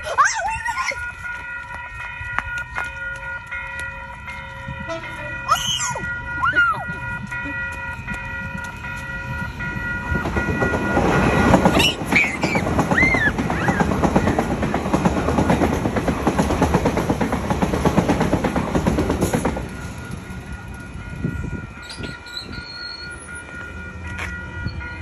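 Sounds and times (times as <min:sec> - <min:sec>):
level crossing warning bells: 0:00.0 - 0:25.0
train wheels rumbling over track: 0:00.0 - 0:25.0.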